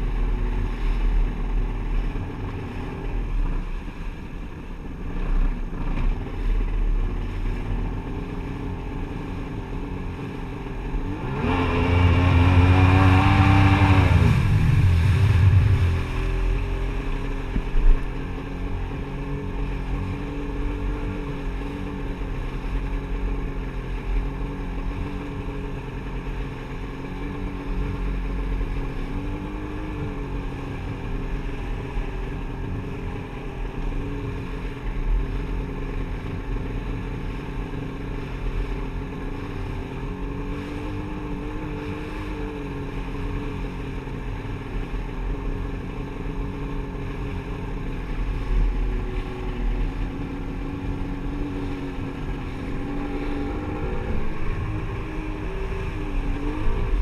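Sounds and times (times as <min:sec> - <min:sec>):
jet ski engine drone: 0:00.0 - 0:57.0
water rushing along hull: 0:00.0 - 0:57.0
wind on microphone: 0:05.0 - 0:25.2, 0:25.8 - 0:57.0.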